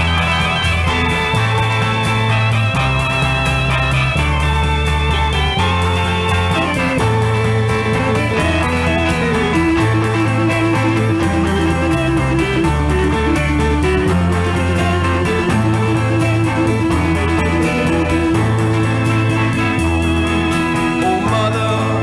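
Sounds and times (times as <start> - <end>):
arpeggiated electric guitar: 0.0 - 22.0
combo organ: 0.0 - 22.0
drums: 0.0 - 22.0
held bass notes: 0.0 - 22.0.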